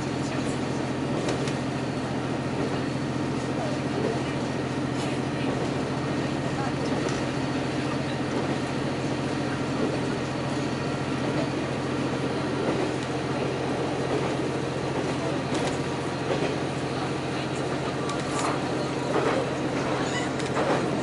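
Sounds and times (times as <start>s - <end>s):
train engine and wheels humming: 0.0s - 21.0s.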